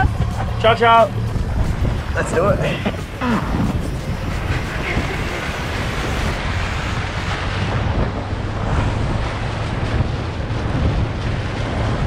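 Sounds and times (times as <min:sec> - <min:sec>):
water rushing against inflatable tube: 0:00.0 - 0:12.0
wind buffeting microphone: 0:00.0 - 0:12.0.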